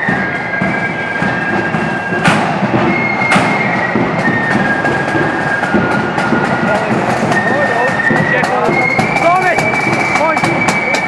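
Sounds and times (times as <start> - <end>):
held high melody notes: 0.0 - 11.0
side drums rattling: 0.0 - 11.0.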